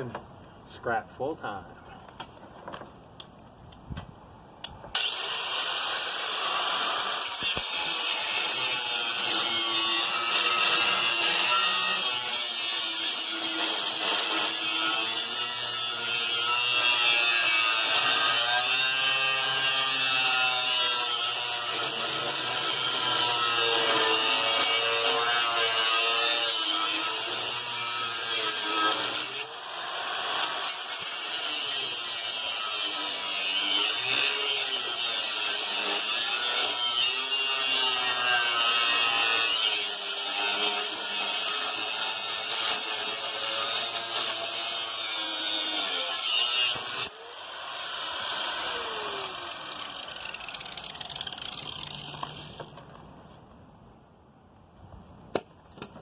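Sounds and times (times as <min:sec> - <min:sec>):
power tool cutting steel: 0:04.9 - 0:52.7.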